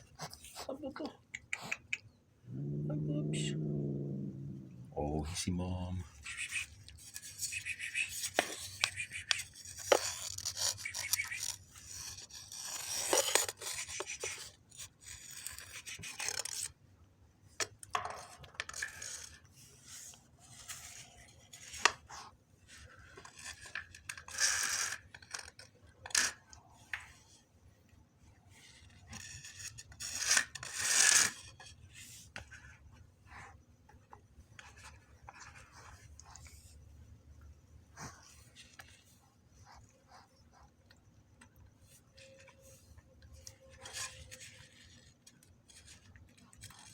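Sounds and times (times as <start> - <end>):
rustling and scraping: 5.5 - 16.8, 17.6 - 40.8, 41.6 - 46.9.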